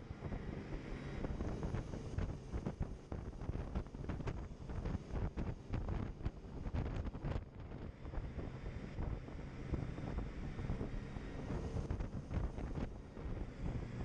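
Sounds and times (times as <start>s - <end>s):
boat running noise: 0.0s - 14.0s
wind buffeting microphone: 0.0s - 14.0s
water: 0.1s - 14.0s.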